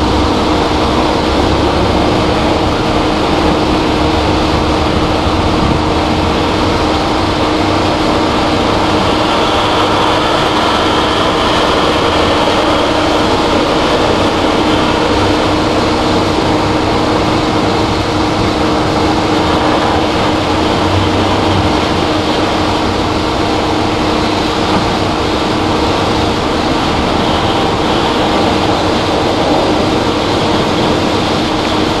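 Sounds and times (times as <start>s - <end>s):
heavy machinery rumbling: 0.0s - 32.0s.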